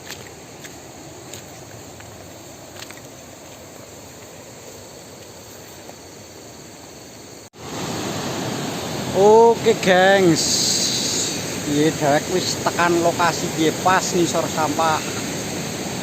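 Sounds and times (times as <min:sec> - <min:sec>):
rush of river water: 0:00.0 - 0:05.9, 0:07.6 - 0:16.0
faint insect chirp: 0:00.0 - 0:16.0.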